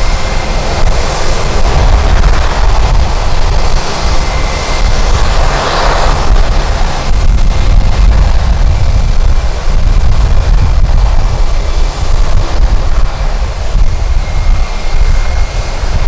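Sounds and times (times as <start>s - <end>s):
jet airliner engines passing: 0.0s - 16.0s
wind buffeting microphone: 0.0s - 16.0s.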